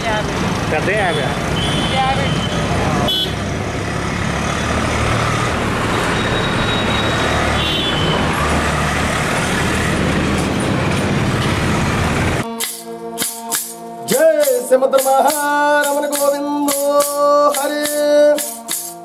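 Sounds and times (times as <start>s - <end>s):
vehicles passing close by: 0.0s - 19.0s.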